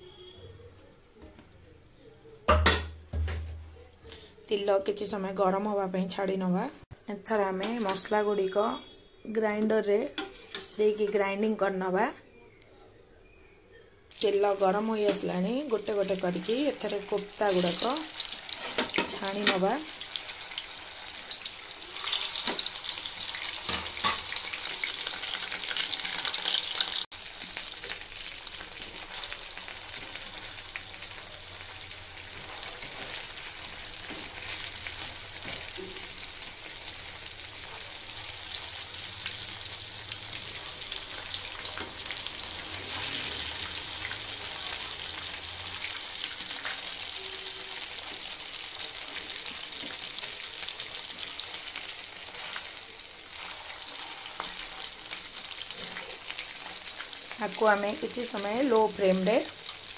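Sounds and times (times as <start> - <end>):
deep-frying sizzle with crackles: 7.3 - 9.0, 9.6 - 11.2, 14.1 - 59.9.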